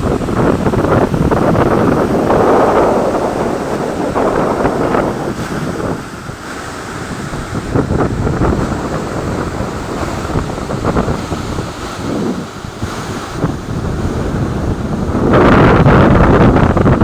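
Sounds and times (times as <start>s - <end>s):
water washing and splashing: 0.0s - 17.0s
wind buffeting the microphone: 0.0s - 17.0s.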